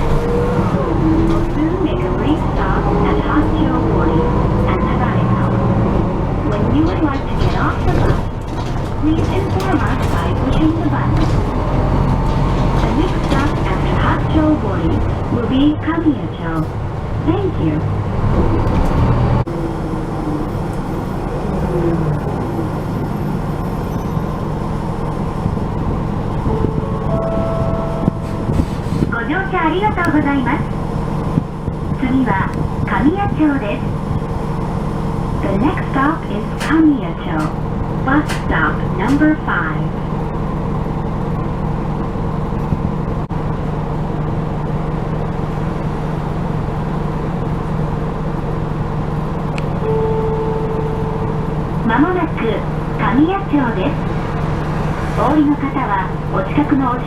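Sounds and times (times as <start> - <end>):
bus engine running: 0.0 - 57.0
road noise: 0.0 - 57.0.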